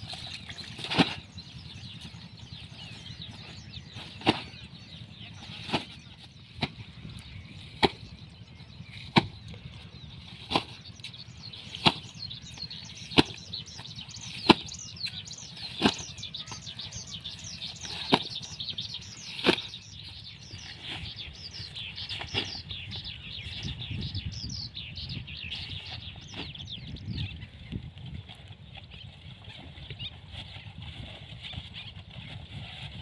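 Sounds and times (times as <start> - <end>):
low steady rumble: 0.0 - 33.0
small birds chirping: 0.0 - 33.0.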